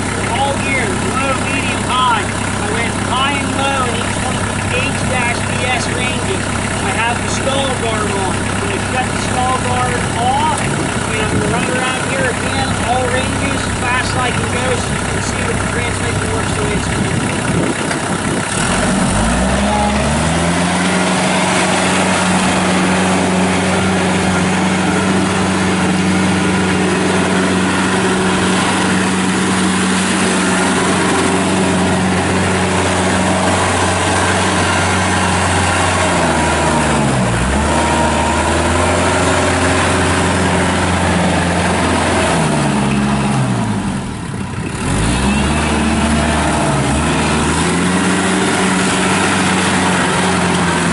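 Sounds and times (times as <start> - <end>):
tractor diesel engine revving: 0.0 - 50.9.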